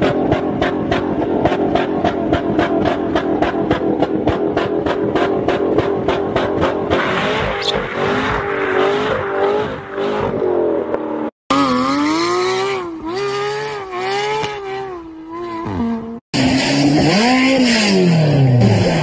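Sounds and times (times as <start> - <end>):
sports car engine revving: 0.0 - 19.0.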